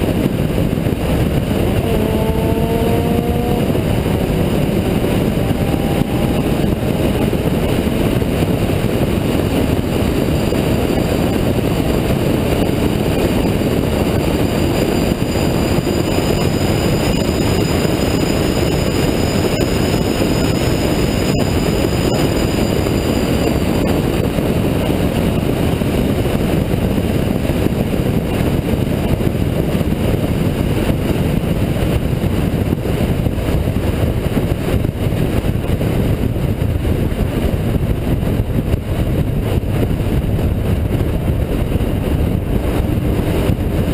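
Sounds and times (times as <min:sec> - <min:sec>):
car interior engine road and wind noise: 0:00.0 - 0:43.9.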